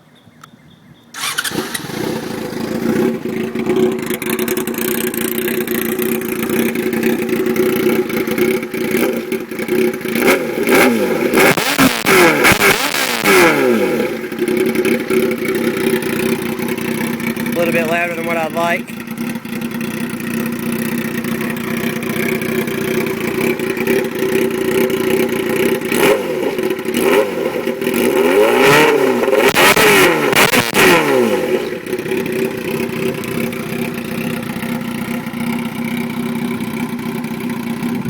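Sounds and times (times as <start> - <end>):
motorcycle engine idling: 0.2 - 28.3, 30.6 - 38.0
engine throttle blips: 0.4 - 38.0.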